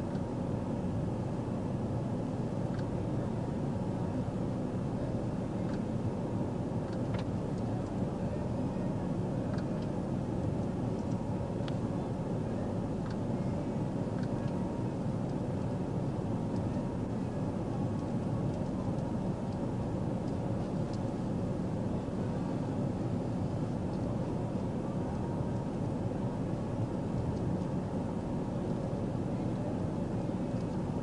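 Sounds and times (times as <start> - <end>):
vehicle engine rumble and hiss: 0.0 - 31.0.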